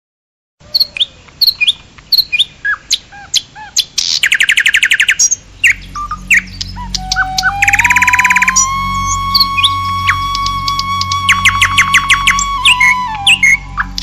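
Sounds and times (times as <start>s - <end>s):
birds chirping: 0.6s - 14.0s
bird trill: 0.7s - 14.0s.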